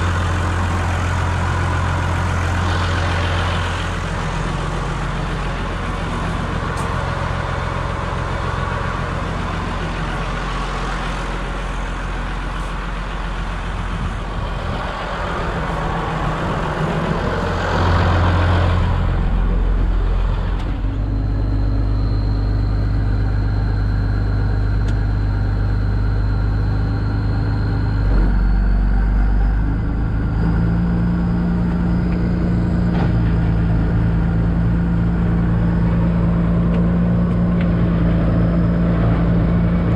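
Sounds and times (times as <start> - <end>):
high whine in cab: 0.0 - 39.9
tractor diesel engine running: 0.0 - 39.9.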